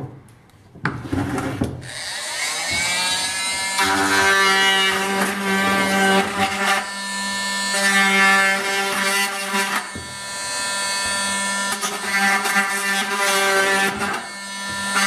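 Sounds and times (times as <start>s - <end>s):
multi-tool cutting plastic: 1.1s - 15.0s.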